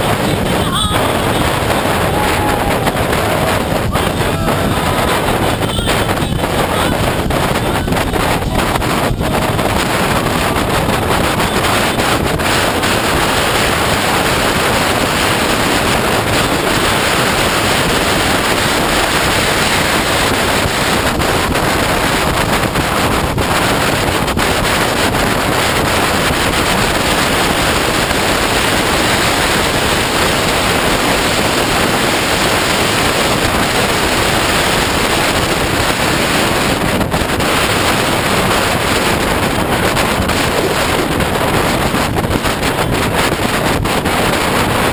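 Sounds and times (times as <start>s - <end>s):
motorcycle engine running: 0.0s - 44.9s
wind rush on microphone: 0.0s - 44.9s.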